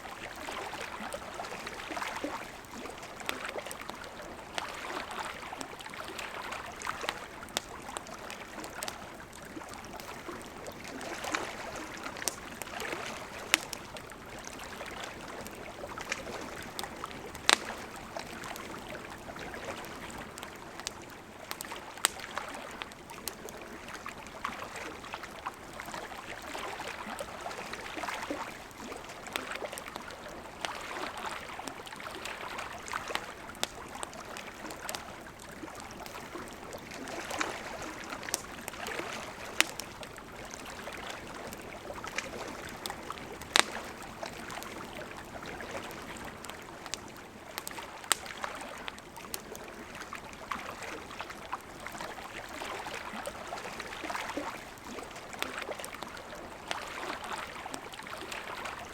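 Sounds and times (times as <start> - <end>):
river water flowing: 0.0 - 58.9
campfire crackling and popping: 0.1 - 58.9.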